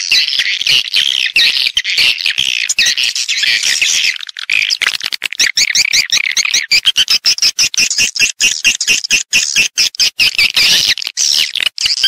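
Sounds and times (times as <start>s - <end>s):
sharp bird clicks: 0.0s - 12.0s
swiftlets chirping and twittering: 0.0s - 12.0s.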